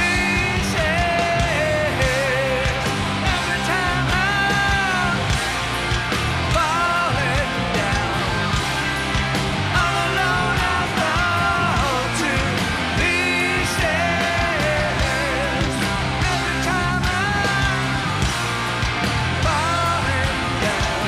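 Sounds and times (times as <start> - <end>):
man singing: 0.0 - 5.4, 6.5 - 8.4, 9.7 - 18.0, 19.4 - 21.0
hard rock band playing: 0.0 - 21.0.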